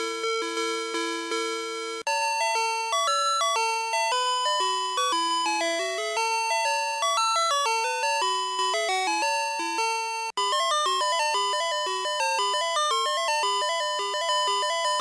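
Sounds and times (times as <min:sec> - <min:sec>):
toy playing electronic song: 0:02.0 - 0:15.0.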